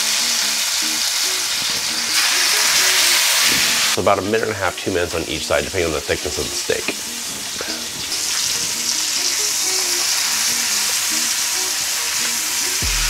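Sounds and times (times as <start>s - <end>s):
steaks sizzling in a frying pan: 0.0s - 12.8s
faint background music: 0.0s - 13.0s.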